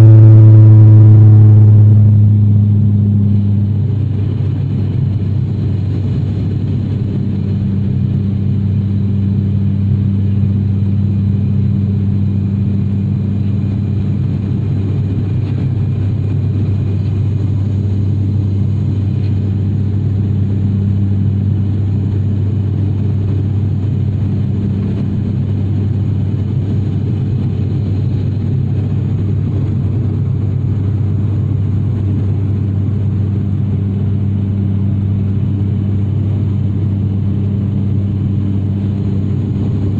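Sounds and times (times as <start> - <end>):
propeller engines droning: 0.0 - 39.9.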